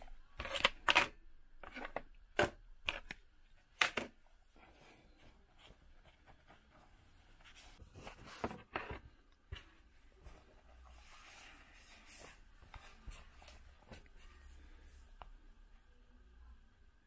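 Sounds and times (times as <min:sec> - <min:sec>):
faint handling noise: 0:00.0 - 0:15.9.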